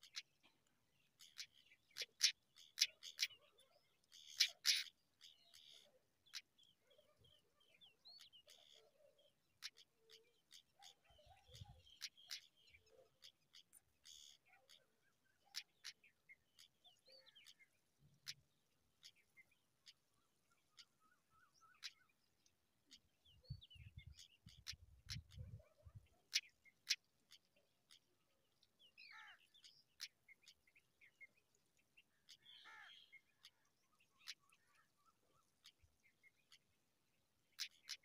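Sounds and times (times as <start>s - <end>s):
faint bird chirps: 0.0s - 38.0s.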